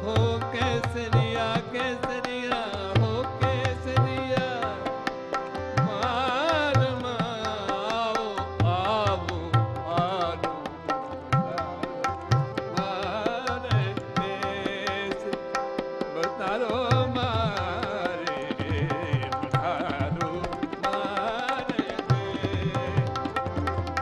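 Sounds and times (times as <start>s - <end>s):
harmonium and tanpura drone: 0.0s - 24.0s
man singing ornamented runs: 0.0s - 24.0s
tabla drumming: 0.0s - 24.0s.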